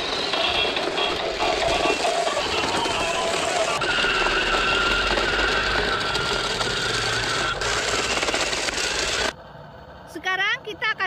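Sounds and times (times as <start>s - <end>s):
wheels rattling on concrete: 0.0s - 9.3s
electric motors whining: 0.0s - 9.4s.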